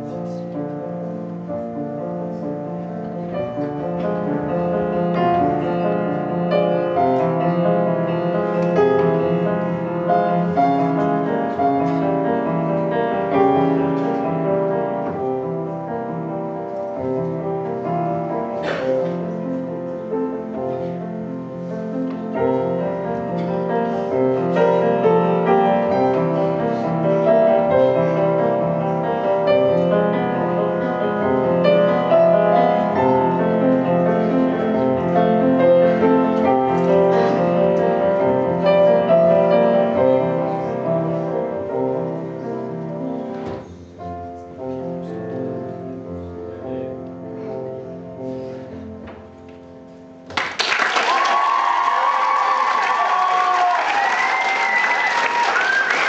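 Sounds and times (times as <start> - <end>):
solo piano playing: 0.0 - 50.3.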